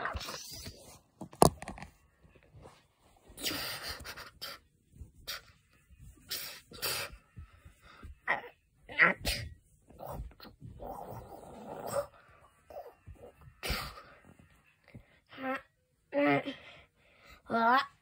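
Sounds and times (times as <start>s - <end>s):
fabric rustling and scraping: 0.0s - 15.2s.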